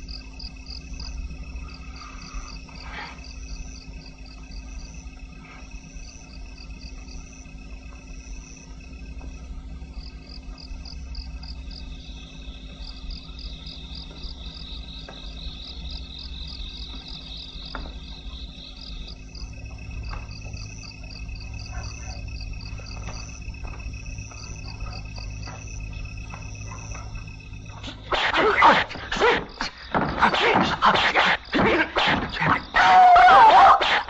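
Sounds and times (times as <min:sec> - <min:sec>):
crickets chirping: 0:00.0 - 0:34.0
steady low hum: 0:00.0 - 0:34.0.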